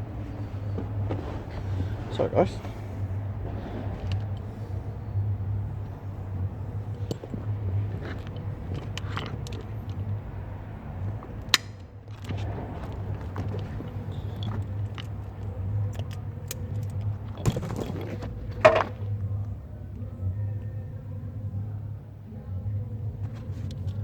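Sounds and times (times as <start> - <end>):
wires and connectors rattling: 0.0 - 19.5
steady low hum: 0.0 - 24.0.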